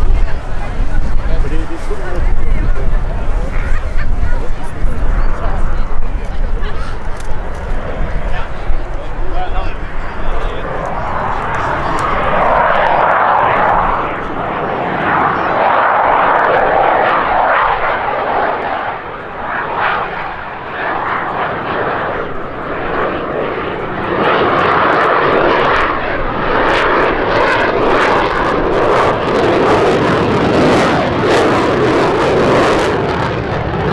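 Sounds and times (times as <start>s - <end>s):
jet engine roar: 0.0s - 33.9s.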